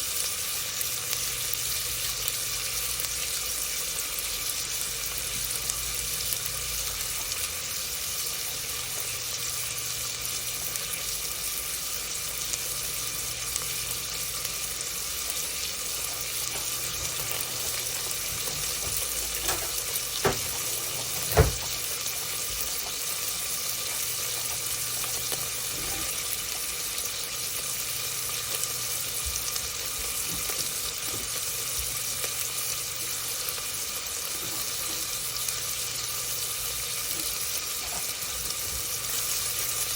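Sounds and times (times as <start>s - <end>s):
food preparation hiss: 0.0s - 39.9s.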